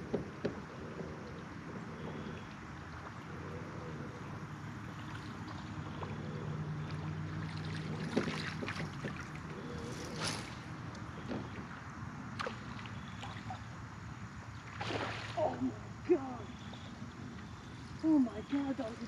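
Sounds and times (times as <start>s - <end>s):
water lapping at hull: 0.0s - 19.0s.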